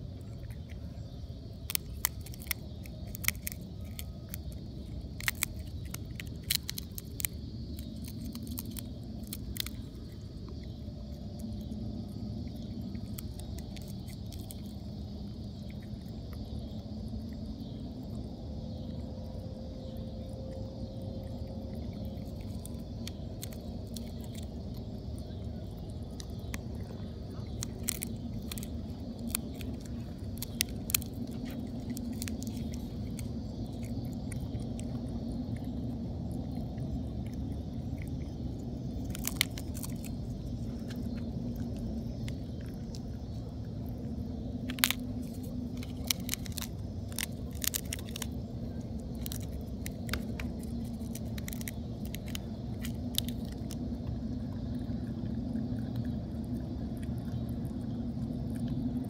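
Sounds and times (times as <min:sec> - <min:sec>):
animal cracking and chewing peanuts: 0:00.0 - 0:59.0
low rumble: 0:00.0 - 0:59.0.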